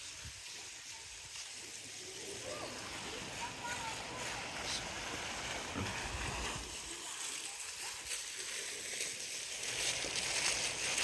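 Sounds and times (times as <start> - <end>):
fountain jet splashing: 0.0 - 11.0.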